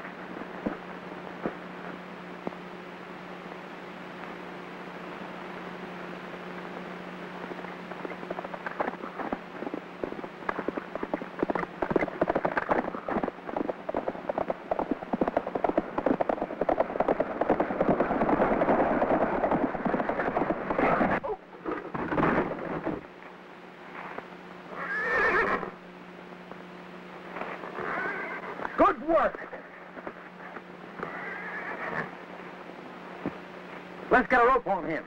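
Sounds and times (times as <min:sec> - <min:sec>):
film soundtrack hum: 0:00.0 - 0:35.0
horses' hooves galloping: 0:00.0 - 0:35.0.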